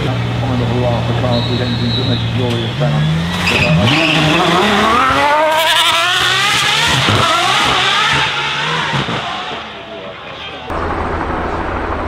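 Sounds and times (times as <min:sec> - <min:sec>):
car engine accelerating hard: 0:00.0 - 0:09.9.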